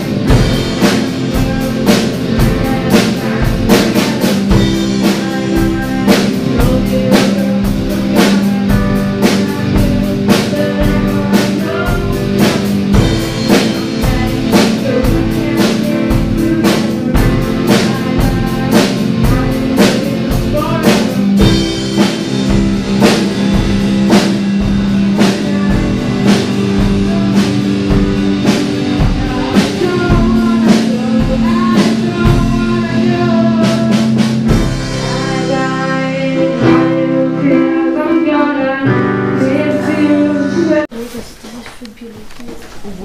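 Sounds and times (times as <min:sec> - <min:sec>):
band playing a song: 0:00.0 - 0:41.1
drum kit beat: 0:00.0 - 0:41.2
person singing: 0:00.0 - 0:42.0
guitar: 0:00.0 - 0:43.0.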